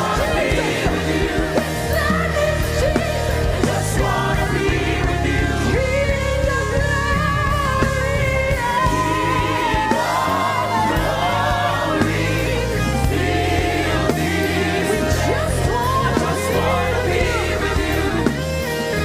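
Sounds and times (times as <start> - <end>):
band with steady bass line: 0.0 - 19.0
voices singing worship song: 0.0 - 19.0.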